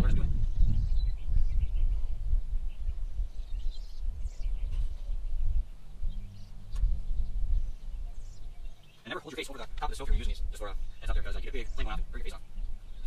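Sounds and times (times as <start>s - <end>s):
wind buffeting microphone: 0.0s - 13.0s
faint bird chirps: 0.4s - 13.0s.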